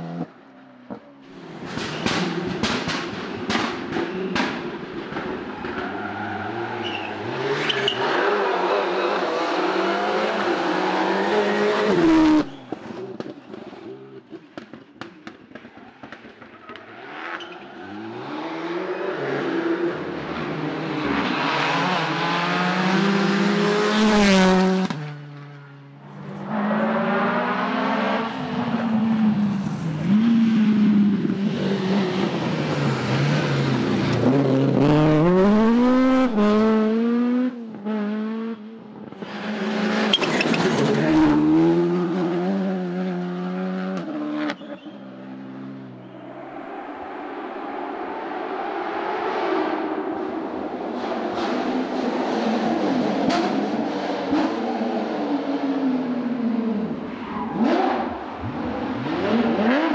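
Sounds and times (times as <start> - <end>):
rally cars revving past: 1.5 - 14.7, 15.8 - 59.9.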